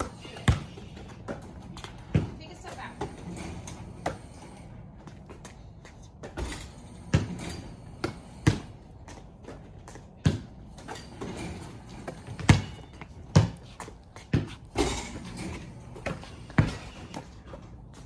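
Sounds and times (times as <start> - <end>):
basketballs bouncing on concrete: 0.0 - 18.0.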